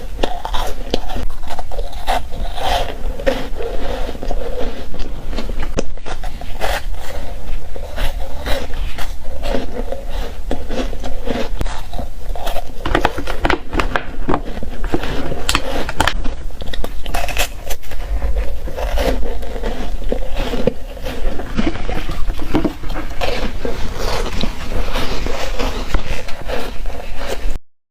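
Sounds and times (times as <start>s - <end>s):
ice being chewed crunching: 0.0s - 27.6s.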